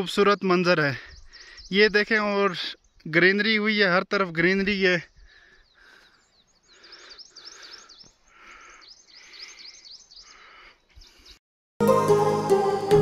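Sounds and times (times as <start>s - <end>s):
small birds chirping: 0.0s - 11.4s.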